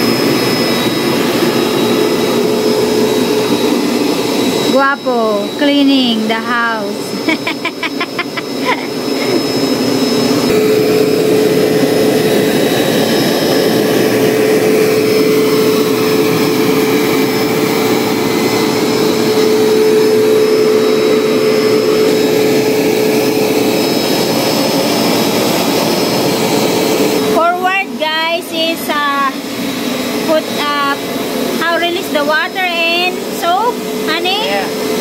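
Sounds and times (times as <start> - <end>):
carpet cleaner motor whine: 0.0 - 35.0.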